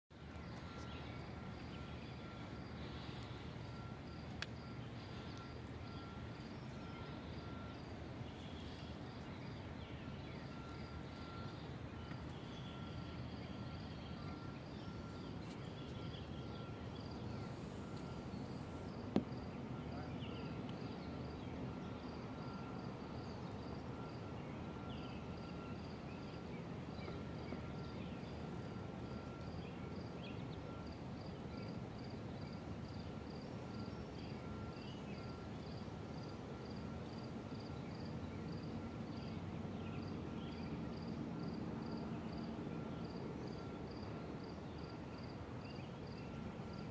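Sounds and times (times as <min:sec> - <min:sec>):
steady low hiss: 0:00.2 - 0:41.8
insect chirping: 0:00.2 - 0:46.9.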